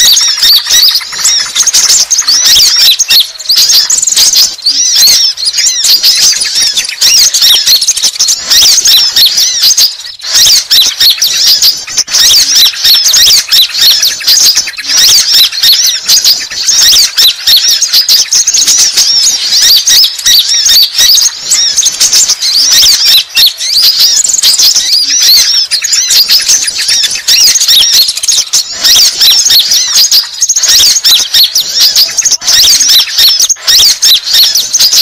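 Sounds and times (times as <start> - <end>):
sunbirds twittering: 0.0 - 35.0.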